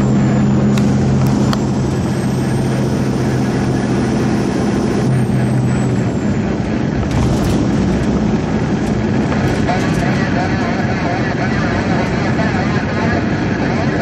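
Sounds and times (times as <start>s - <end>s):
diesel truck engine droning: 0.0s - 14.0s
road and wind noise: 0.0s - 14.0s
steady low hum: 0.0s - 14.0s.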